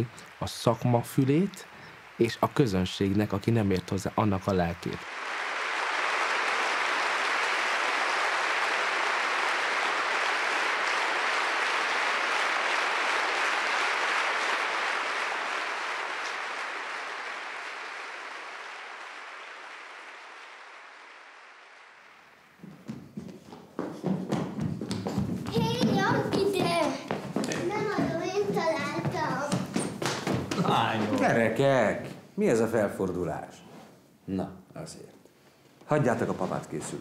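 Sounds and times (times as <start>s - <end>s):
audience applauding: 0.0s - 23.2s, 24.0s - 31.8s.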